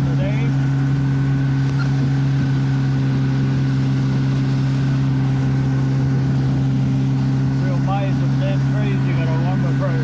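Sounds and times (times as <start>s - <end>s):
boat motor humming: 0.0s - 10.0s
water rushing past hull: 0.0s - 10.0s.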